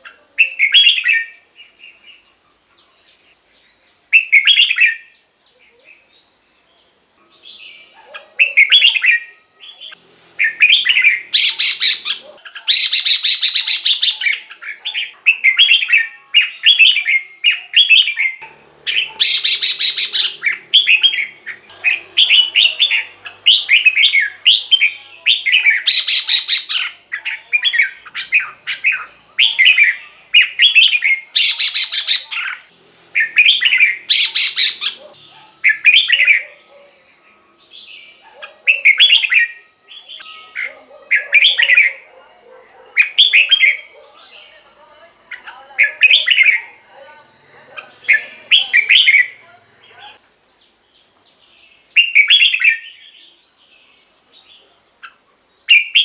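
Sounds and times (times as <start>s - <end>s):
bird singing warbled phrases: 0.0s - 56.0s
harsh buzzy bird calls: 5.9s - 56.0s.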